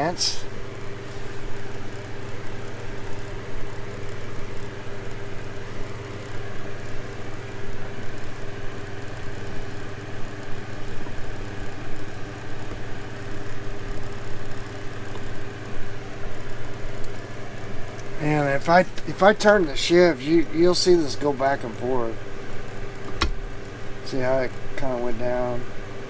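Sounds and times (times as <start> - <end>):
motor humming: 0.0 - 26.0.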